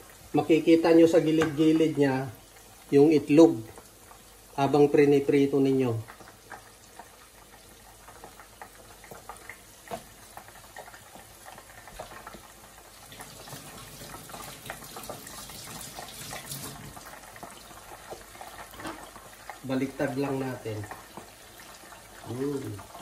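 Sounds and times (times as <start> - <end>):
oil bubbling and crackling: 0.0 - 23.0.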